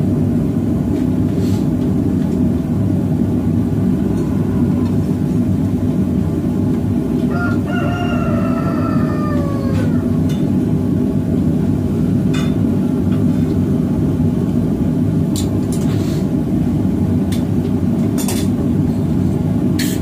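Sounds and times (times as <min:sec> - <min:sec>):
gas forge burner rushing: 0:00.0 - 0:20.0.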